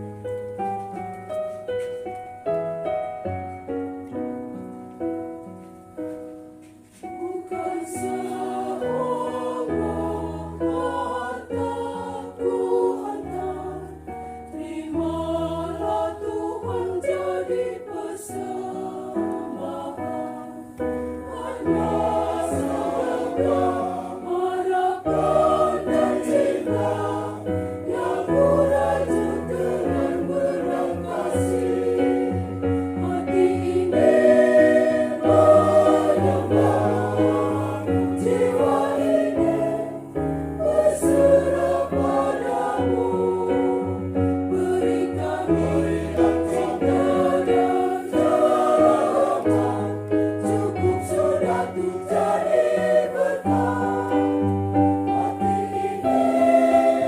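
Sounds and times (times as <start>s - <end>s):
keyboard accompaniment: 0.0s - 57.0s
choir singing a hymn: 6.9s - 57.0s.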